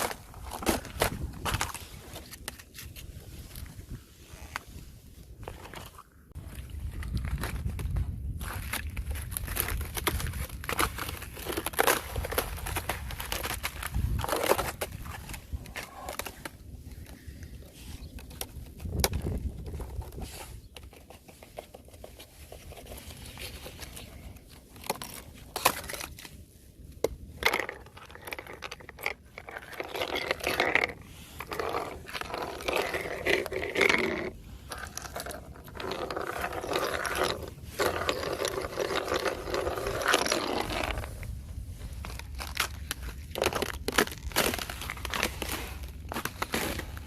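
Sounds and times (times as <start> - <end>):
thin ice cracking and crunching: 0.0 - 3.9, 5.3 - 47.0.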